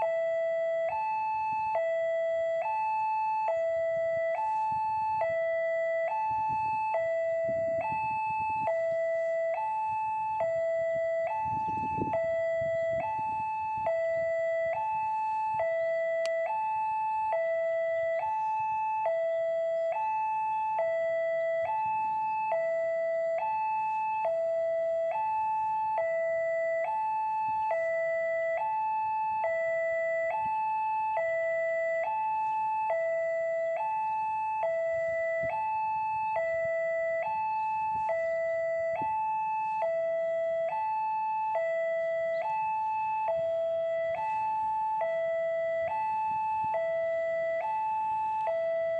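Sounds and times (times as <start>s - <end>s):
level crossing two-tone alarm: 0.0s - 48.9s.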